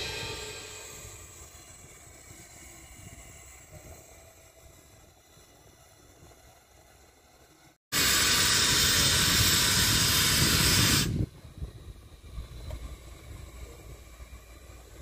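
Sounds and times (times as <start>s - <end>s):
steam hissing from locomotive: 0.0s - 15.0s.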